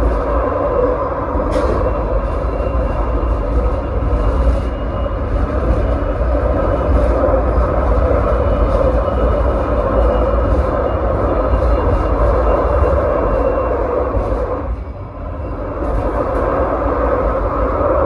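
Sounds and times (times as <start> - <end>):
tram rumbling on track: 0.0 - 18.0.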